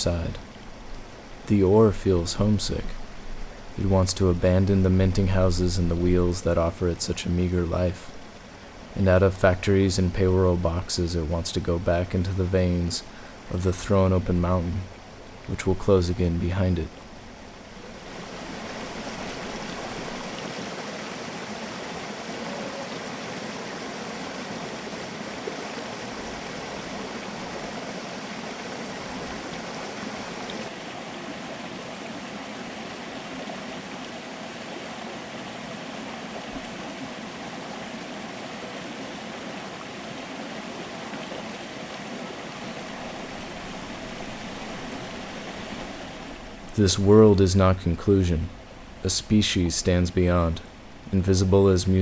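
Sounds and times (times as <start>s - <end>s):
stream water rushing: 0.0s - 52.0s.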